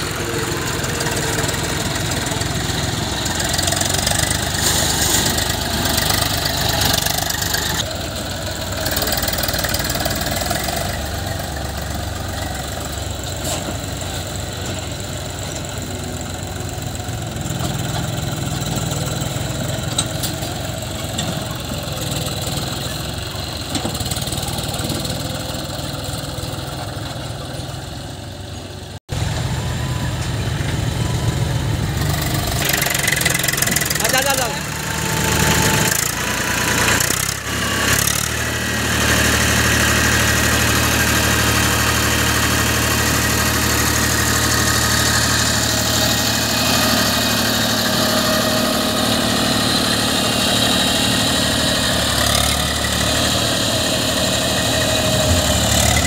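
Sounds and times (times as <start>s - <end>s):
tractor diesel engines running: 0.0s - 56.0s.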